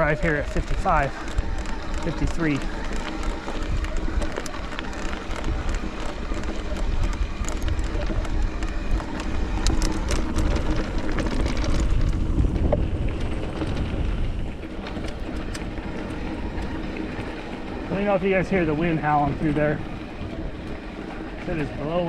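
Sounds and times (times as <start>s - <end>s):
bike clicks and rattles: 0.0s - 22.0s
wind blowing across microphone: 0.0s - 22.0s.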